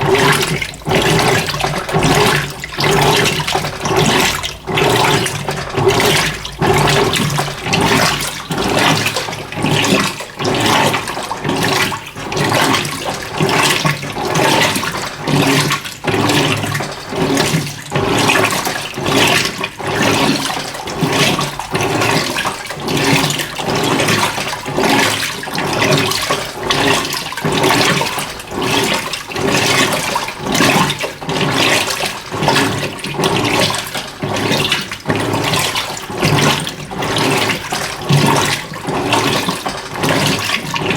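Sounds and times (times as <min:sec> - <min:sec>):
water sloshing in washing machine: 0:00.0 - 0:40.9.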